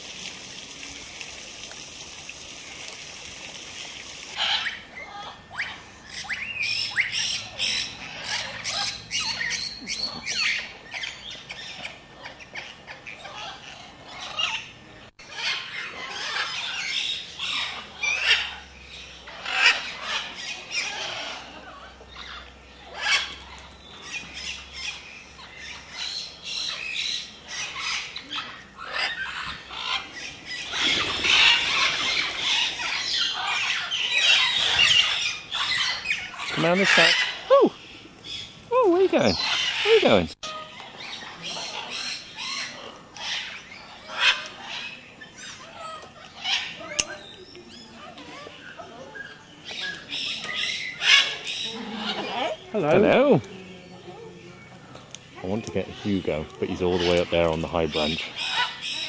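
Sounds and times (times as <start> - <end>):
parrots squawking: 4.4 - 54.1, 55.4 - 59.0.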